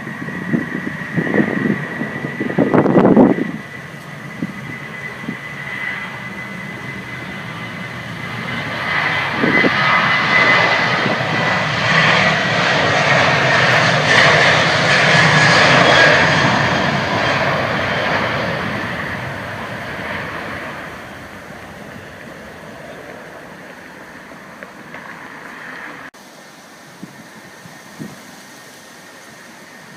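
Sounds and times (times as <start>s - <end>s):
high jet engine whine: 0.0s - 29.9s
jet airliner passing by: 0.0s - 29.9s.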